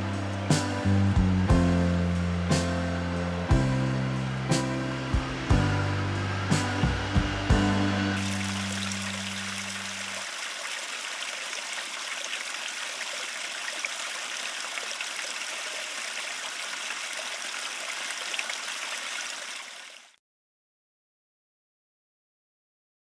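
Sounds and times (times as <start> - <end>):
stream water flowing: 0.0 - 1.0, 2.0 - 20.2.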